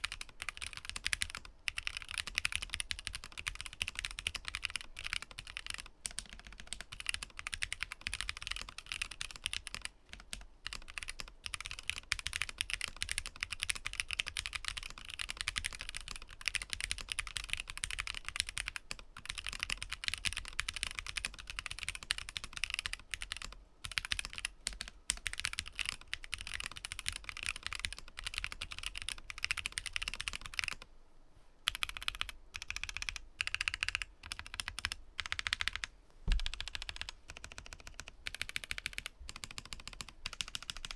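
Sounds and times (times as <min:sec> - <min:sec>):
mechanical keyboard typing: 0:00.0 - 0:30.8, 0:31.7 - 0:40.9.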